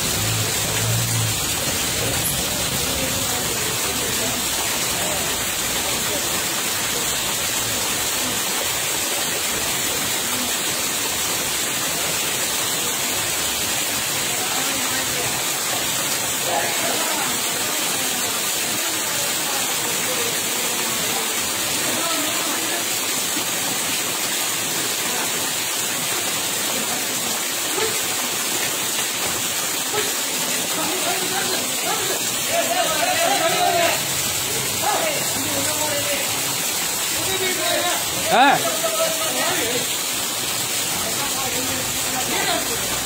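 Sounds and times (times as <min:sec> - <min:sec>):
rain falling on water: 0:00.0 - 0:43.0.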